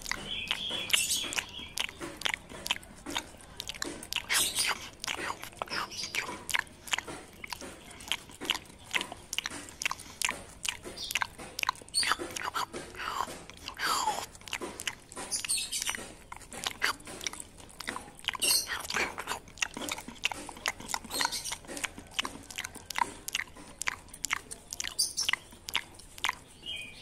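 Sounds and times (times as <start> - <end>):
monkey crunching food: 0.0 - 27.0.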